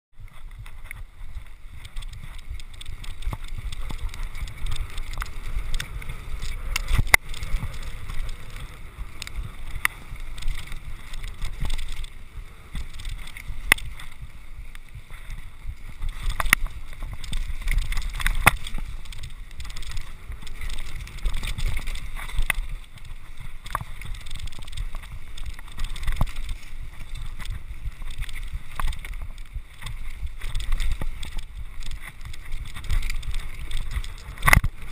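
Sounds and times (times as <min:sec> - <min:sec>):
wind rumbling on microphone: 0:00.1 - 0:34.9
bike knocking and rattling: 0:00.2 - 0:34.9.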